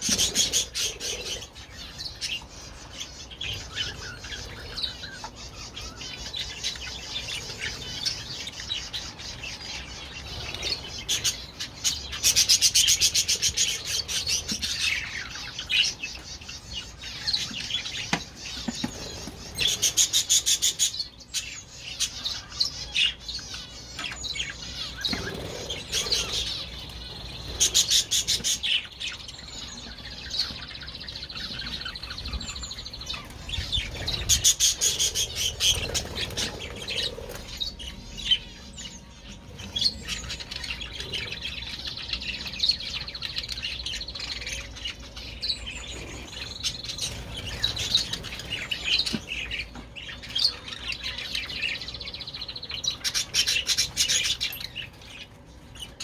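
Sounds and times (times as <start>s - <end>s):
budgerigars chattering and warbling: 0.0s - 56.0s.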